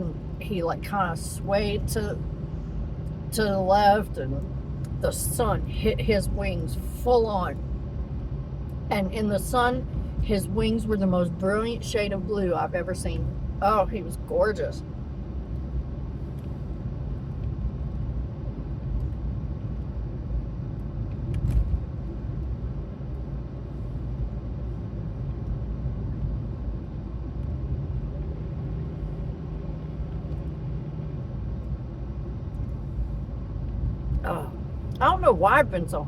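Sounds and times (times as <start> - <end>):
road and engine rumble in car: 0.0 - 36.0.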